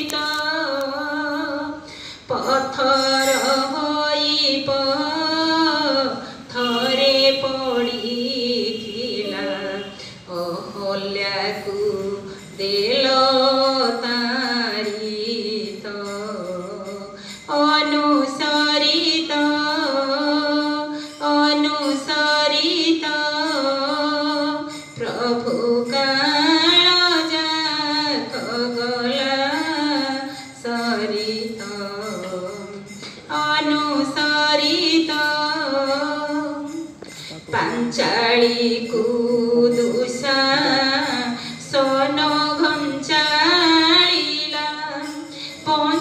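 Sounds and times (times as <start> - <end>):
woman singing devotional song: 0.0 - 46.0.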